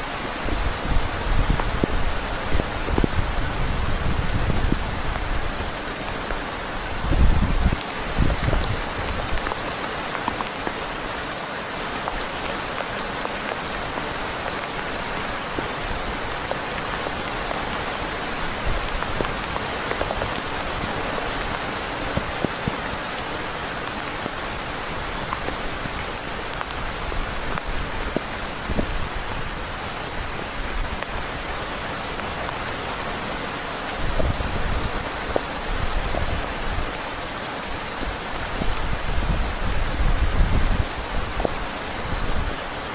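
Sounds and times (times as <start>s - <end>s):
heavy rain hissing: 0.0s - 42.9s.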